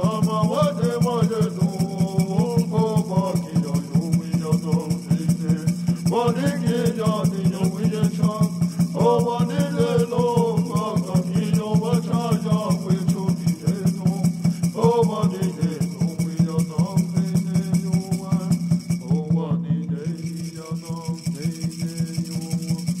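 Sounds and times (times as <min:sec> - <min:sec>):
music with fast pulsing beat: 0:00.0 - 0:23.0.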